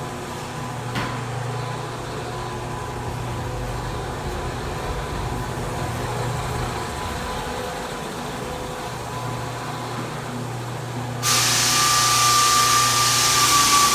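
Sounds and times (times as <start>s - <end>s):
floor sander running: 0.0s - 13.9s.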